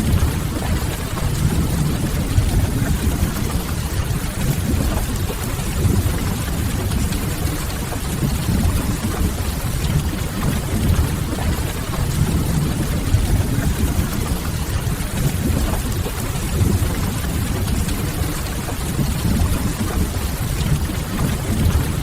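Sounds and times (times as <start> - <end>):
rain hissing on window glass: 0.0 - 22.0.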